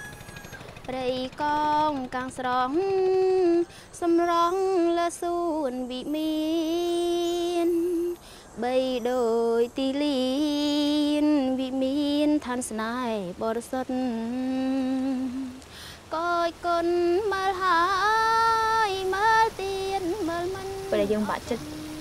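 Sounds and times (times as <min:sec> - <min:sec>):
woman singing slow melody: 0:00.0 - 0:22.0.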